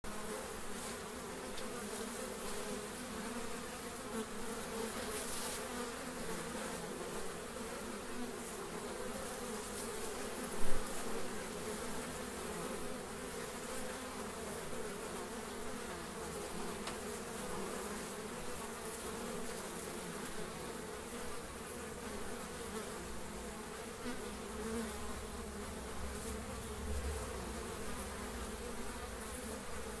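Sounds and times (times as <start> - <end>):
flies buzzing: 0.1 - 30.0.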